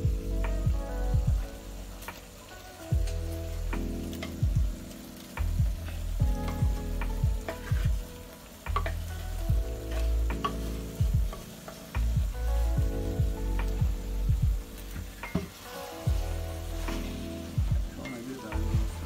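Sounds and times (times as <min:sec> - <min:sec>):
background music with low chords: 0:00.0 - 0:19.0
food sizzling in a pot: 0:00.0 - 0:19.0.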